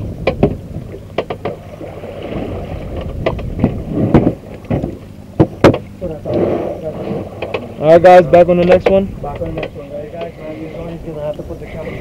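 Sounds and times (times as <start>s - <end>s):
steady low rumble: 0.0s - 12.0s
water slapping against hull: 0.0s - 12.0s.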